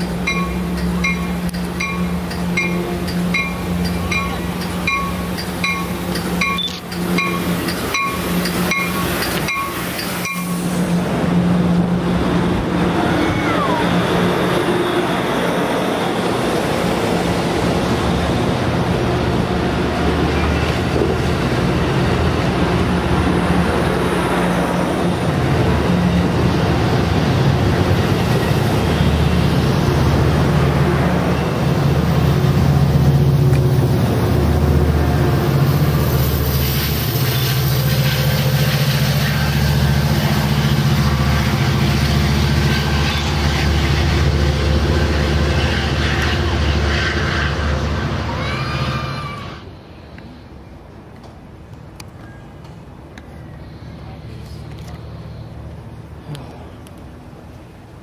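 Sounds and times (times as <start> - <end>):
train rumble and wheel noise: 0.0 - 58.0.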